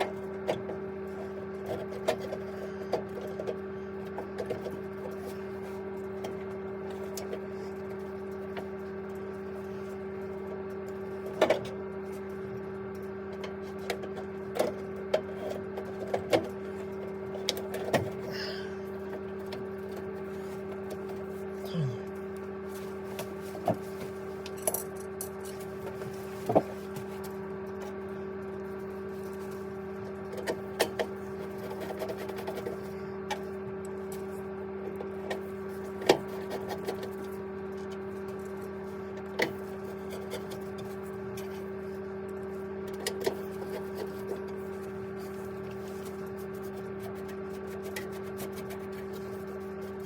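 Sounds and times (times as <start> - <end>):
boiler humming with whine: 0.0 - 50.0.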